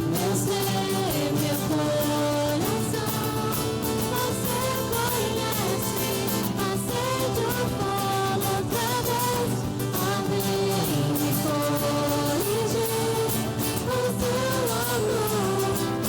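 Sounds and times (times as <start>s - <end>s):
instrumental accompaniment: 0.0s - 16.0s
person singing worship song: 0.0s - 16.0s.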